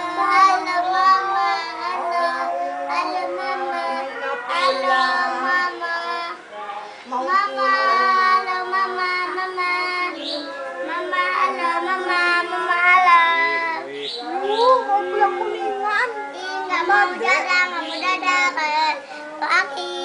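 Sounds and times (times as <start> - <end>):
child singing long notes: 0.0 - 6.5, 7.1 - 20.0.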